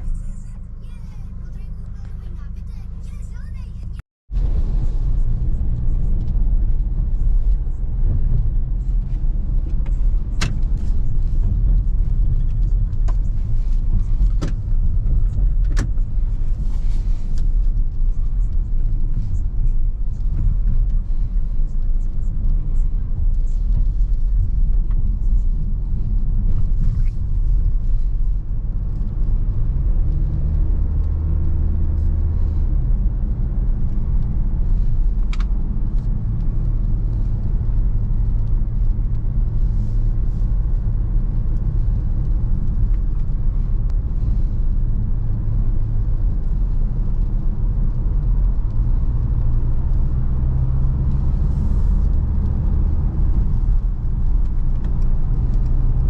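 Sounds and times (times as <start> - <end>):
diesel van engine rumbling: 0.0 - 56.0.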